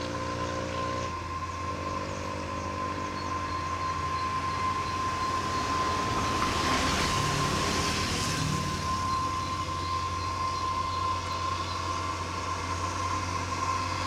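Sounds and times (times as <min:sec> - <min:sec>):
diesel truck engine labouring: 0:00.0 - 0:14.0.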